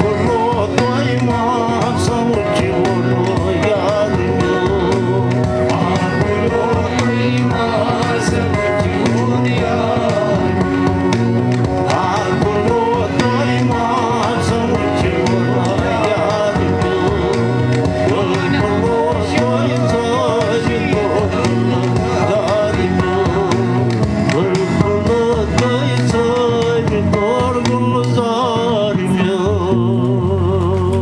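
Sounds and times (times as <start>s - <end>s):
hand drum beat: 0.0s - 30.0s
person singing: 0.0s - 31.0s.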